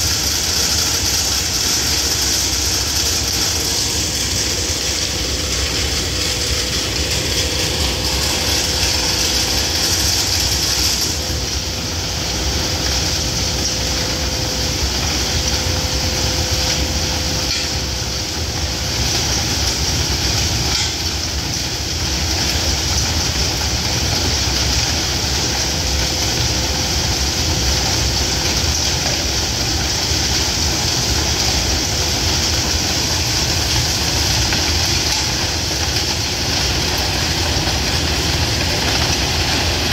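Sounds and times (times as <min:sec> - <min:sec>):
track machine mechanical din: 0:00.0 - 0:39.9.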